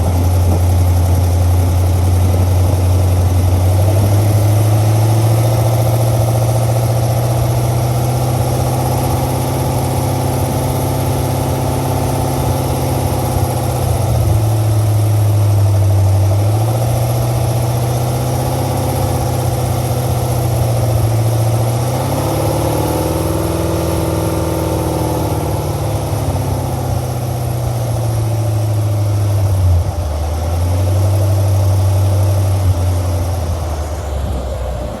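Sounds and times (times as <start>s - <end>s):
car engine idling: 0.0s - 35.0s
engine ticking: 0.0s - 35.0s.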